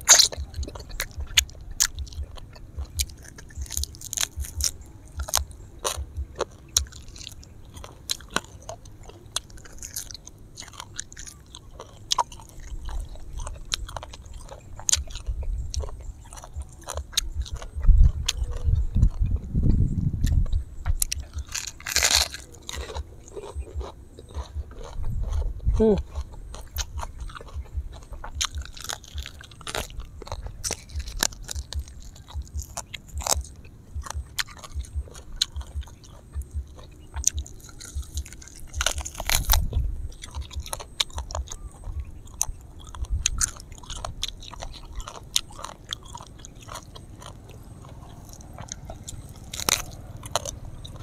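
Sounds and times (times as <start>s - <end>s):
biting and chewing meat: 0.0s - 51.0s.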